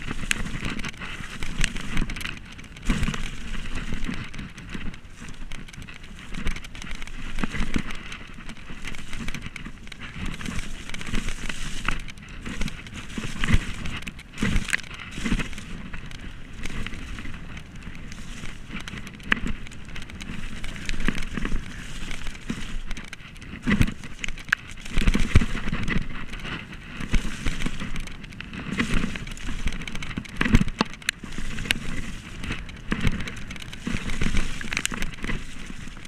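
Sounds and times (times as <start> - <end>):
bike knocking over bumps: 0.0 - 36.0
bike tyres crunching over dirt: 0.0 - 36.0.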